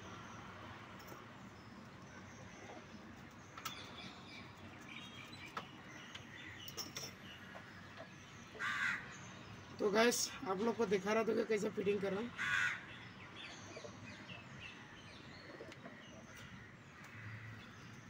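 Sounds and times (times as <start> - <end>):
birds chirping and calling: 1.4 - 18.0.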